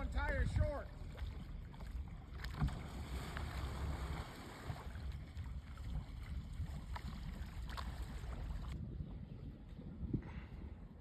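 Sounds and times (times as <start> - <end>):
wind on microphone: 0.0 - 11.0
boat rumbling on water: 0.5 - 10.8.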